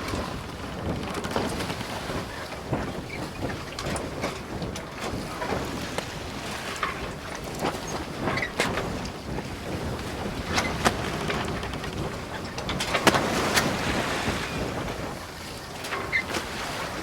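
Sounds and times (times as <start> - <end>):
knocks and splashes: 0.0 - 15.1
water noise: 0.0 - 17.0
wind on microphone: 0.0 - 17.0.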